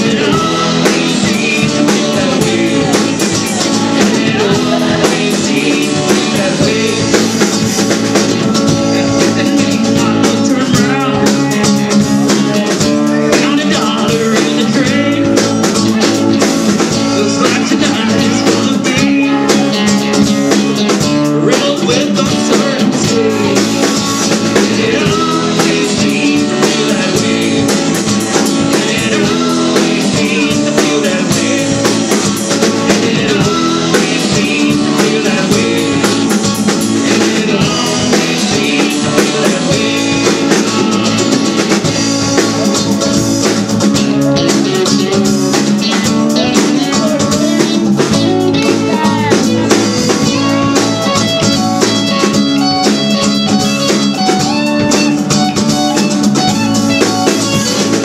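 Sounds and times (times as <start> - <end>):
person singing: 0.0 - 42.6, 46.0 - 58.0
drum kit: 0.0 - 58.0
guitar: 0.0 - 58.0
live rock band playing: 0.0 - 58.0.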